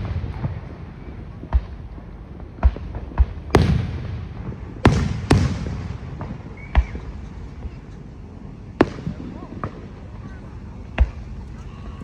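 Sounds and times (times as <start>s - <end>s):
fireworks bangs: 0.0s - 11.8s
rumbling echo: 0.0s - 12.0s.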